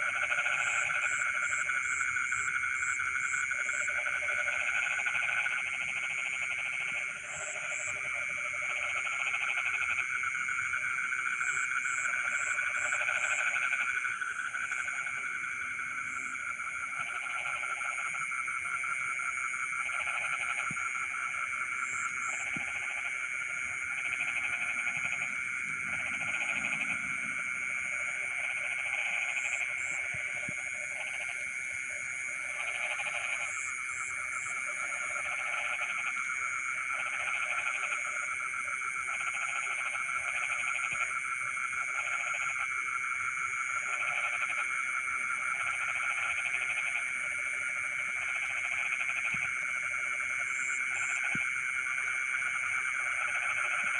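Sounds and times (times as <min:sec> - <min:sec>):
frogs trilling: 0:00.0 - 0:53.9.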